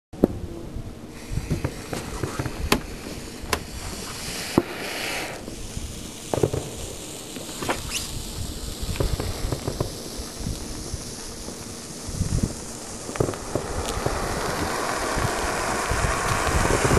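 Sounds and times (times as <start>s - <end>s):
fireworks fountain hissing: 0.2s - 16.9s
firework pops and crackles: 1.2s - 16.9s
rising firework whistle: 1.2s - 16.9s.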